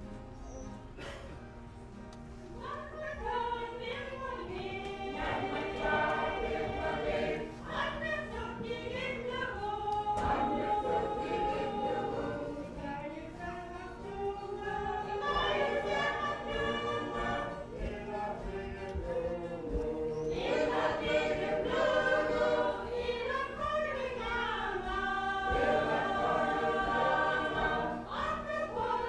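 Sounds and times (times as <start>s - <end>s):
choir singing a hymn: 2.6s - 29.0s.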